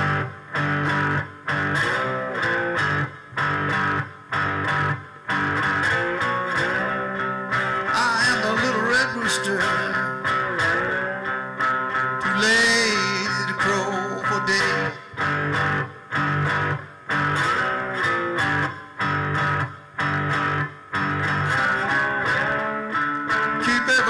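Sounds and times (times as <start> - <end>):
slide guitar blues: 0.0 - 24.0.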